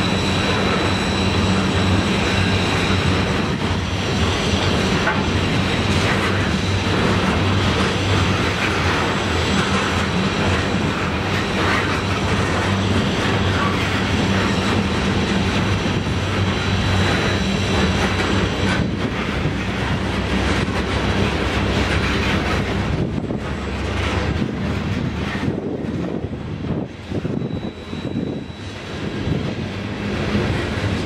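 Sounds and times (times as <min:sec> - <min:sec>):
train rumbling by: 0:00.0 - 0:31.0
train wheels clicking over rail joints: 0:00.0 - 0:31.0.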